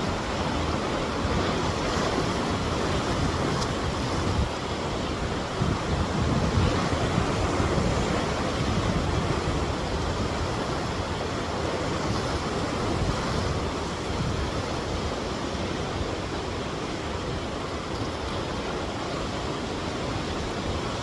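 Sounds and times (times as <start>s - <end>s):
rushing whitewater rapids: 0.0s - 21.0s
wind on microphone: 0.0s - 21.0s.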